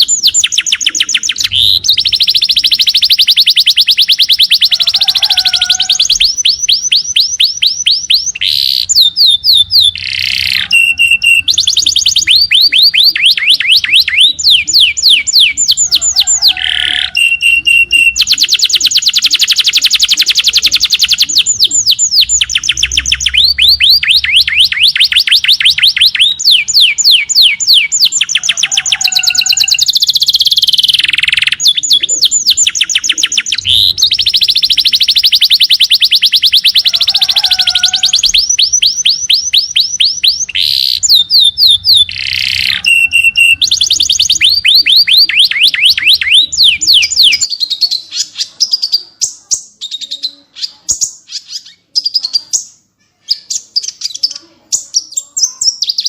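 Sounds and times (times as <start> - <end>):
small songbird trilling: 0.0 - 56.0.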